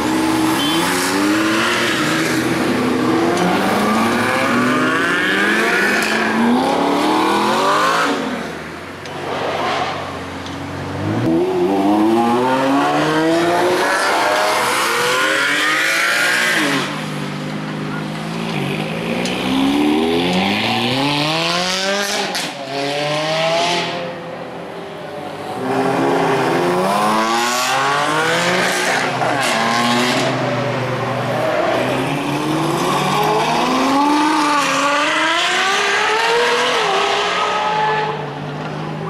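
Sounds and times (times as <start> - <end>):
cars accelerating hard: 0.0 - 24.2, 25.3 - 38.8.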